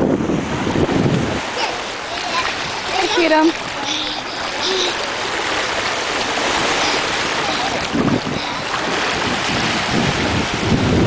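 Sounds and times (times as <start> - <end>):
surf washing over sand: 0.0 - 11.0
wind buffeting microphone: 0.0 - 11.0.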